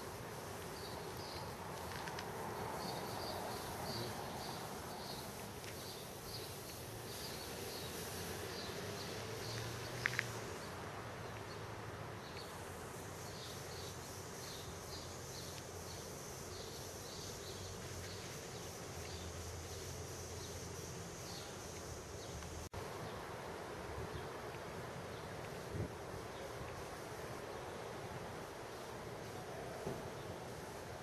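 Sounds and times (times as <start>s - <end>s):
high insect drone: 0.0s - 31.0s
insect chirps: 0.0s - 31.0s.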